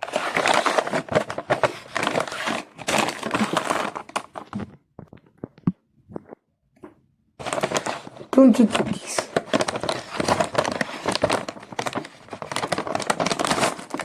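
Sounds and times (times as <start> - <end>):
cookie wrapper crinkling and tearing: 0.0 - 5.3, 7.4 - 14.0.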